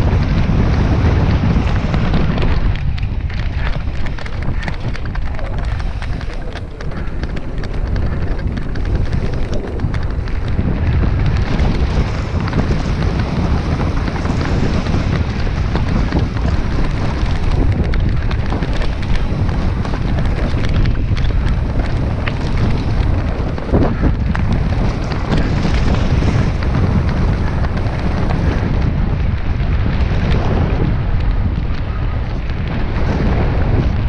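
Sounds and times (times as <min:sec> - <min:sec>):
bike tyres rolling over dirt: 0:00.0 - 0:34.0
wind rushing over microphone: 0:00.0 - 0:34.0.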